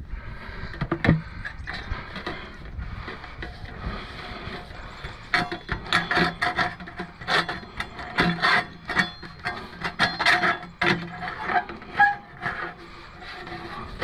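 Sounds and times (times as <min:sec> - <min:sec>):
metal pipe scraping and squeaking: 0:00.8 - 0:14.0.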